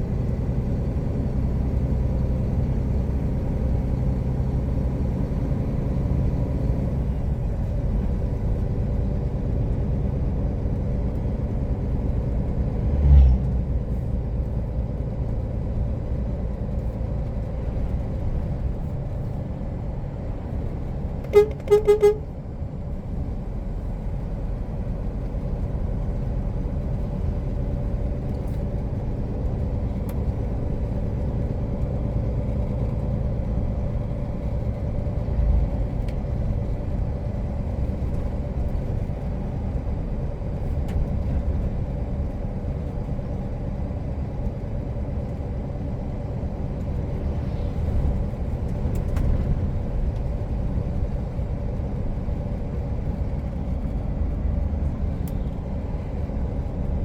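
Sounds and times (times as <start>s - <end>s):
truck diesel engine rumble: 0.0s - 57.0s.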